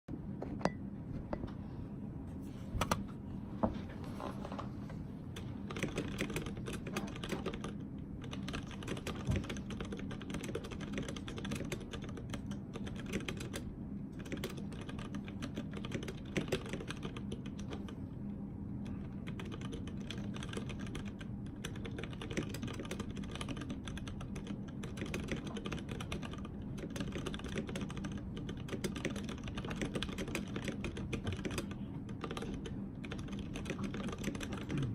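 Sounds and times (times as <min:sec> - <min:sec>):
mechanical keyboard typing: 0:05.3 - 0:18.0, 0:18.8 - 0:34.8.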